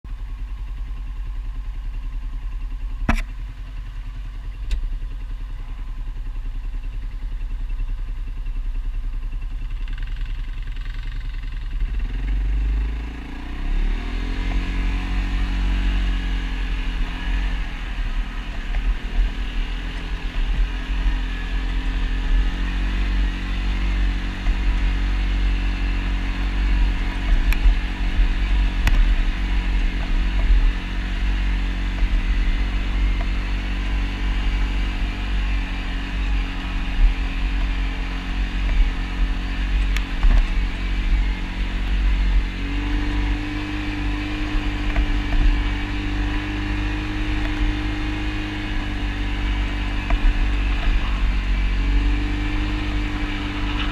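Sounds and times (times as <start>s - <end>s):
engine running and revving: 0.0s - 53.9s.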